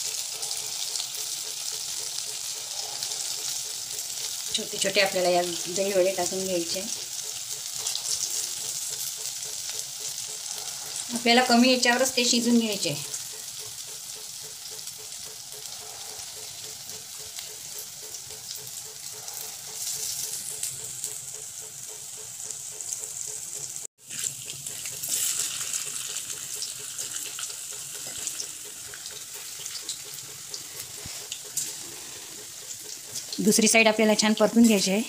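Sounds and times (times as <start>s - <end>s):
batter sizzling in hot oil: 0.0s - 35.0s.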